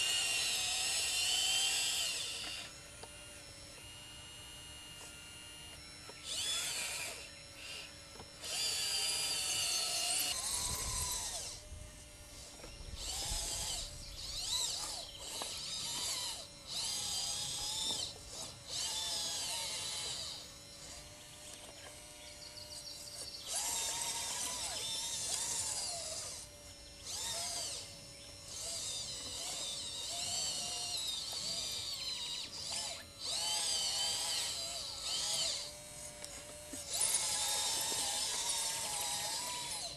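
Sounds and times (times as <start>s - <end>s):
model loader motors whining: 0.0s - 39.9s.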